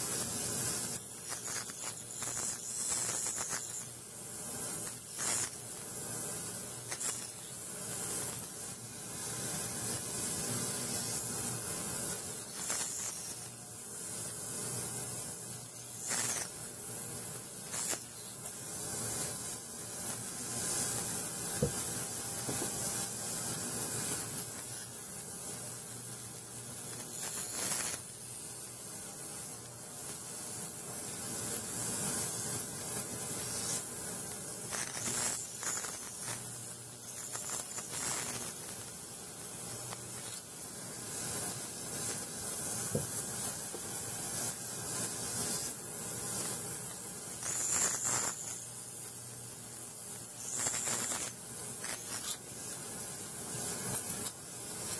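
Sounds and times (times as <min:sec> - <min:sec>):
ultrasonic cleaner hissing: 0:00.0 - 0:54.9.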